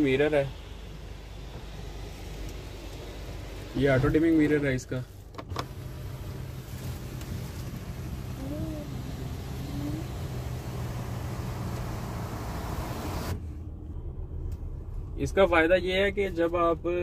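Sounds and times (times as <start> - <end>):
car cabin engine hum: 0.0 - 17.0.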